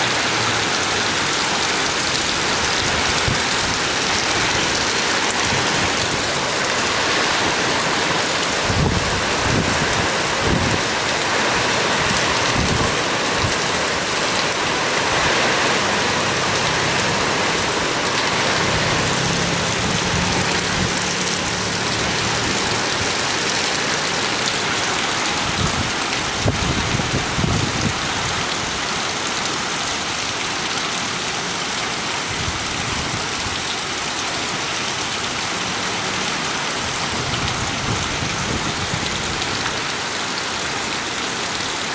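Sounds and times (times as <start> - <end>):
heavy rain and strong wind: 0.0 - 41.9.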